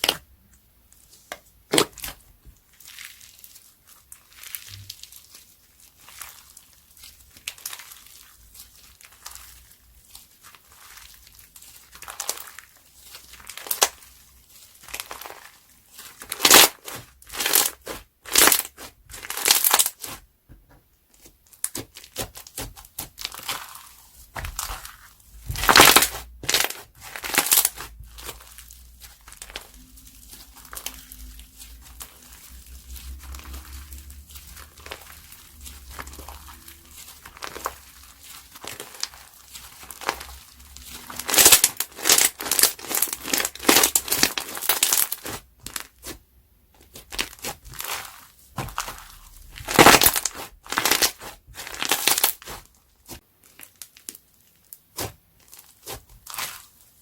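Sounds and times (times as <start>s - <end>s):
crunchy slime squeezed by hand: 1.6s - 20.2s, 21.6s - 46.2s, 46.8s - 56.8s.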